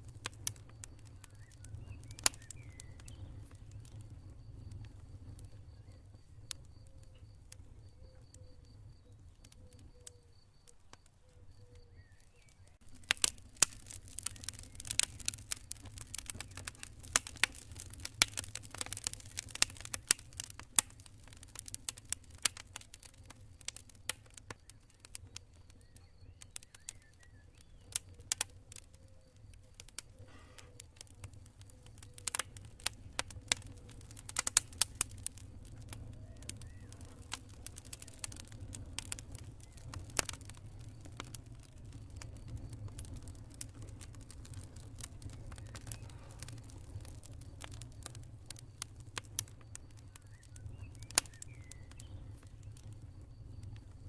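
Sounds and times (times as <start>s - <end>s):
campfire crackling and popping: 0.0s - 54.0s
cricket chirping trill: 0.0s - 54.0s.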